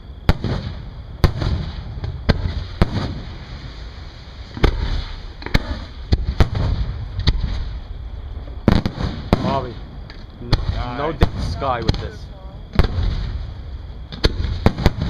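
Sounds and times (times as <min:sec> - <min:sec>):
fireworks booming: 0:00.0 - 0:15.0
low rumble of bursts and echoes: 0:00.0 - 0:15.0.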